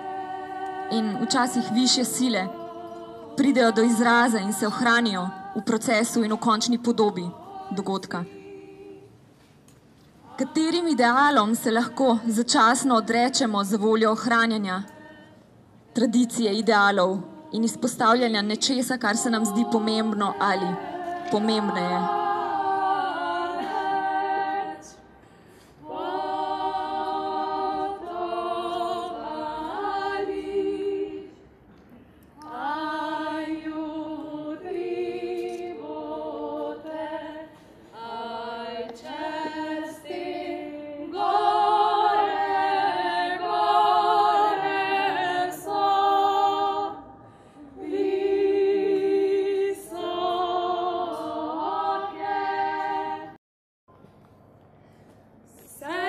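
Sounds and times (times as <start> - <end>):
women singing a cappella: 0.0 - 9.5, 10.2 - 31.8, 32.4 - 53.4, 55.5 - 56.0.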